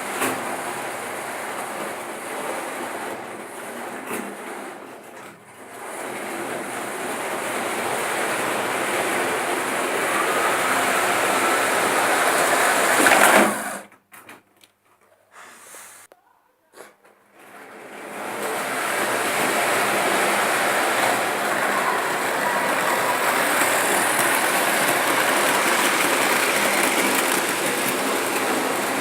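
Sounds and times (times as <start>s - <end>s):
model train running on track: 0.0s - 13.8s, 17.5s - 29.0s.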